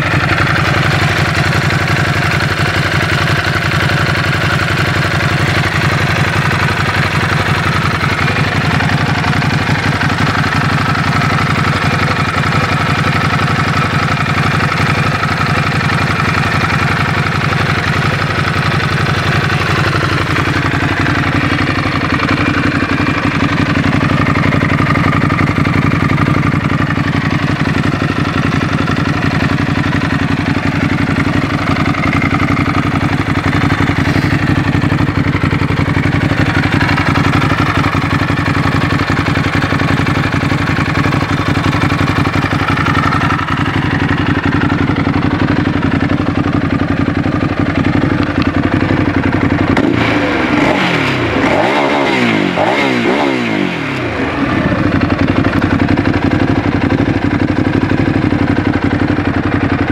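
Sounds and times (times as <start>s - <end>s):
motorcycle engine idling: 0.0s - 59.9s
motorcycle engine revving: 0.0s - 59.9s.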